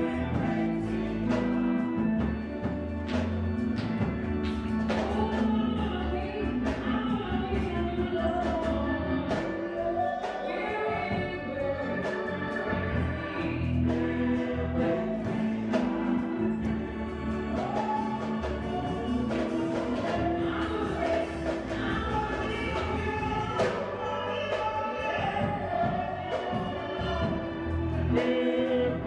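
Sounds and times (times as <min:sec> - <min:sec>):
choir singing: 0:00.0 - 0:29.0
low bass notes: 0:00.0 - 0:29.0.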